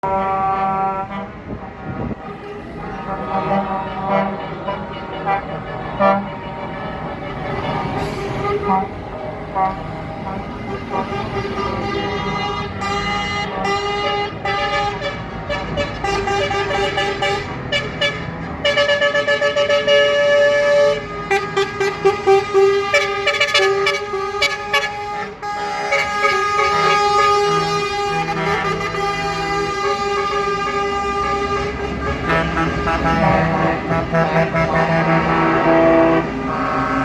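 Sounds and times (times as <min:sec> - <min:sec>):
truck air horns blasting: 0:00.0 - 0:37.0.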